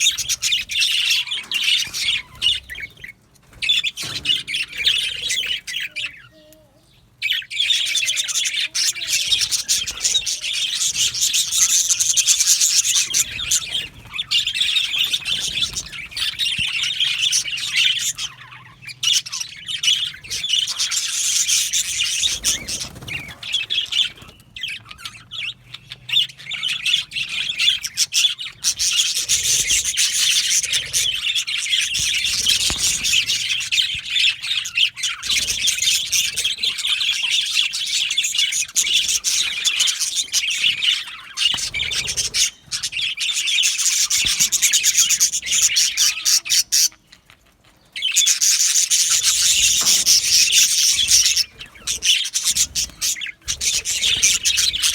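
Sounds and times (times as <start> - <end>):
budgies chirping: 0.0 - 54.9.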